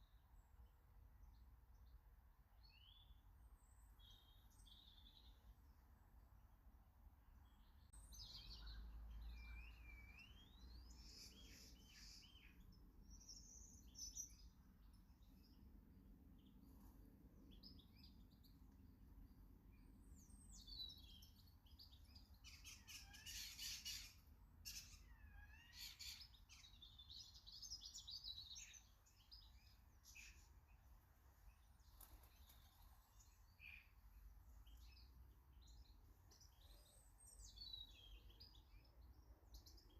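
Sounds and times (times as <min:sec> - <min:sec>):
small birds chirping: 0:00.0 - 0:06.2, 0:07.4 - 0:39.9.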